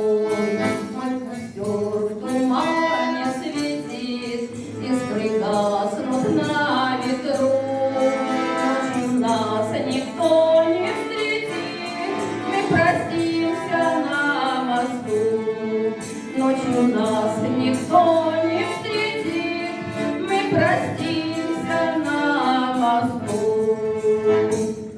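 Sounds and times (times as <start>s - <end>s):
jingling percussion beat: 0.0s - 24.9s.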